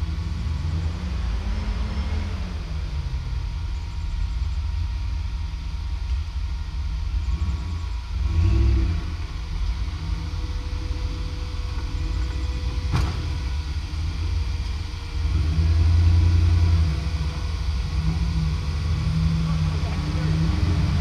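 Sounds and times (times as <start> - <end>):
buggy engine running: 0.0 - 21.0.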